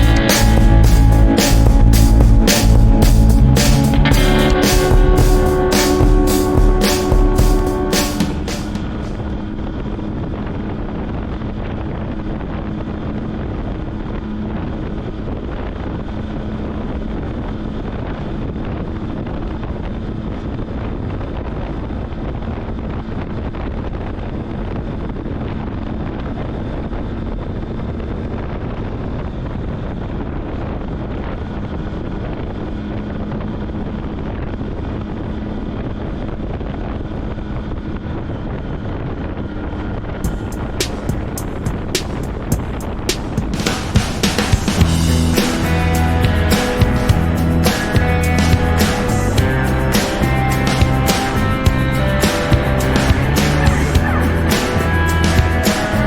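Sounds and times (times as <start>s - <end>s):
motorcycle engine hum: 0.0s - 28.6s, 29.3s - 56.0s
wind noise on microphone: 0.0s - 56.0s.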